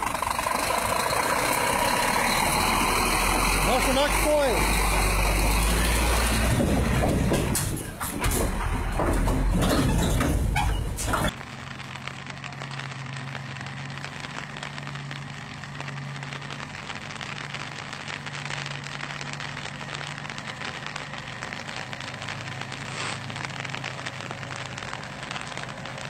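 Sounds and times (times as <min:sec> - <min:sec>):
crackling hiss of water: 0:00.0 - 0:06.9, 0:11.0 - 0:26.0
distant truck engine hum: 0:00.0 - 0:26.0.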